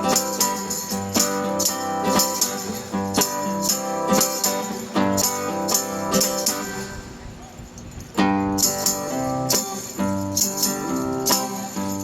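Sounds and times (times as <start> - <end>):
strummed acoustic guitar: 0.0 - 7.3, 8.1 - 12.0
jingling hand percussion: 0.0 - 12.0.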